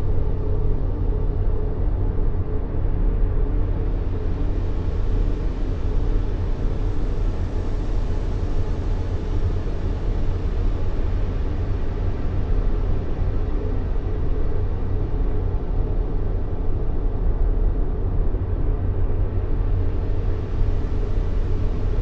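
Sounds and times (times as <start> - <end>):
deep rumbling white noise: 0.0 - 22.0.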